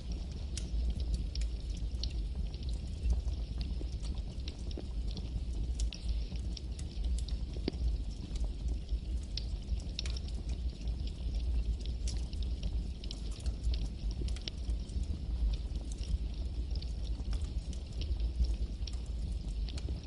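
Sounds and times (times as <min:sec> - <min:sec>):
campfire crackling and popping: 0:00.0 - 0:20.0
low rumble and hiss: 0:00.0 - 0:20.0.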